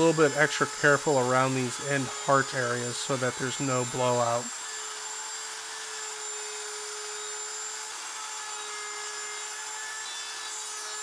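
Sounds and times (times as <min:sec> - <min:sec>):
router whining and hissing: 0:00.0 - 0:11.0.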